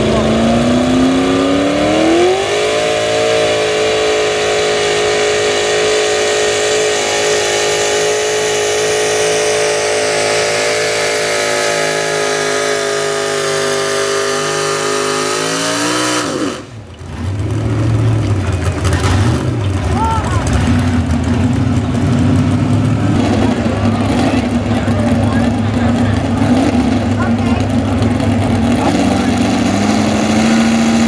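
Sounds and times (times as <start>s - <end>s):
pulling truck engine at high revs: 0.0s - 31.0s
rough engine rumble: 0.0s - 31.0s.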